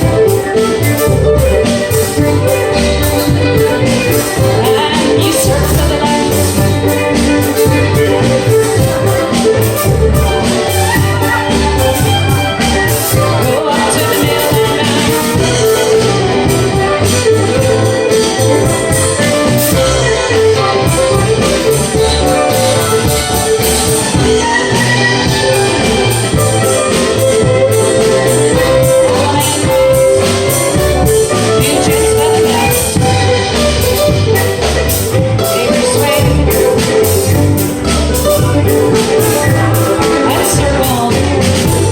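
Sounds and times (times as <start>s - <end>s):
dance band playing: 0.0s - 41.9s
fiddle: 0.0s - 41.9s
keyboard: 0.0s - 41.9s
percussion beat: 0.0s - 41.9s
plucked strings: 0.0s - 41.9s.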